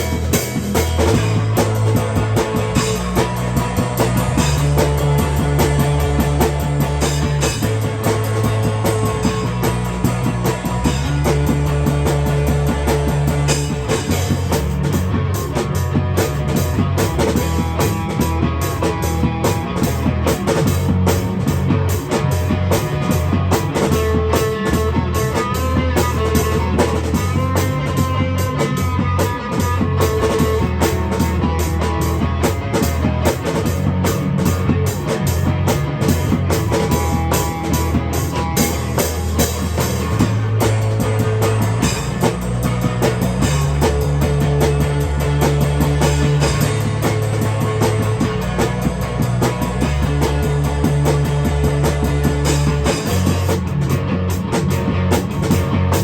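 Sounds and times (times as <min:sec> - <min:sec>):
bass line: 0:00.0 - 0:56.0
drum kit beat: 0:00.0 - 0:56.0
electric guitar: 0:00.0 - 0:56.0.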